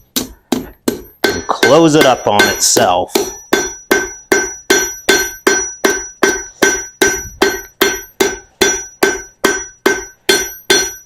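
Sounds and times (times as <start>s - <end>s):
hammer striking steel on anvil: 0.0s - 11.0s.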